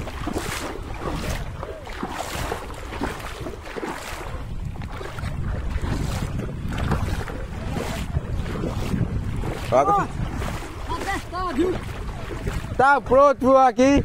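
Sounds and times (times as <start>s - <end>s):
river water running: 0.0s - 14.0s
wind buffeting microphone: 0.0s - 14.0s.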